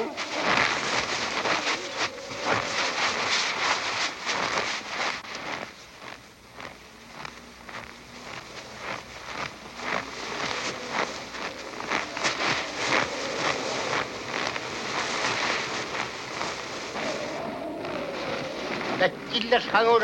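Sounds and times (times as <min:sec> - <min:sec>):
footsteps crunching in snow: 0:00.0 - 0:20.0
load scraping over snow: 0:00.0 - 0:20.0.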